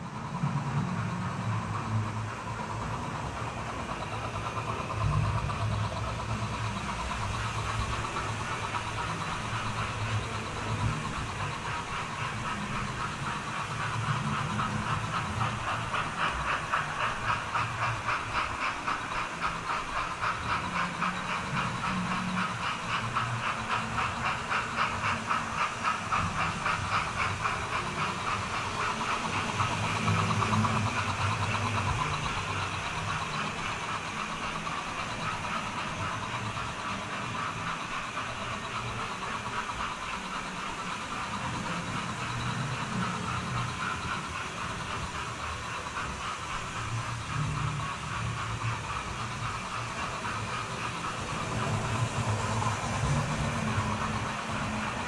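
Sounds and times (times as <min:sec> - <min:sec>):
model train motor hum: 0:00.0 - 0:55.0
rhythmic pulsing: 0:00.0 - 0:55.0
wheels running on track: 0:00.0 - 0:55.0.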